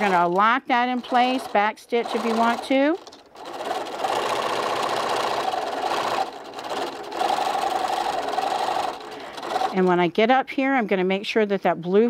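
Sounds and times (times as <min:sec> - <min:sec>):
electric sewing machine stitching: 0:00.0 - 0:10.2.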